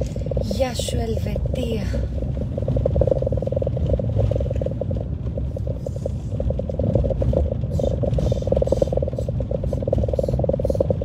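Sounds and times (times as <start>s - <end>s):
car engine and road rumble: 0.0s - 11.0s
fast-pulsing mid-pitched buzz: 0.0s - 11.0s.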